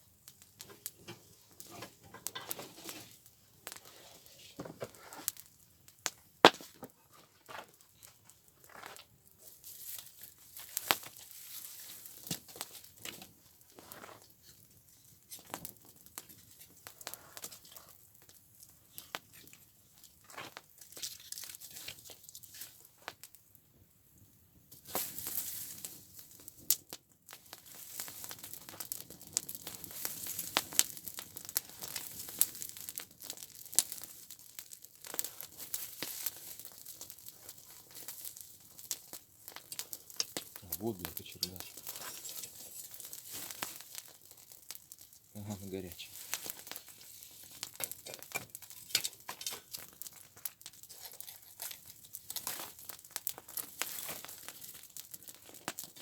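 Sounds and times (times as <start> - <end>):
burning rubbish crackling: 0.0 - 23.5, 24.1 - 56.0
rustling hiss of fire: 0.0 - 23.5, 24.1 - 56.0.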